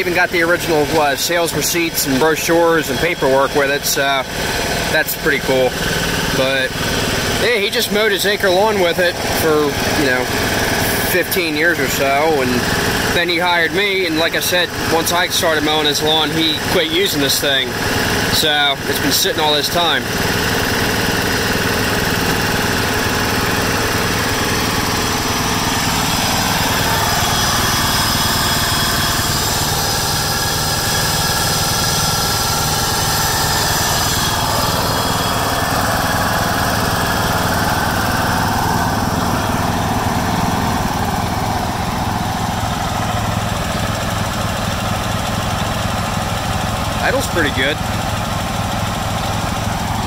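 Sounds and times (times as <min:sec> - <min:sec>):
lawn tractor engine idling: 0:00.0 - 0:50.0.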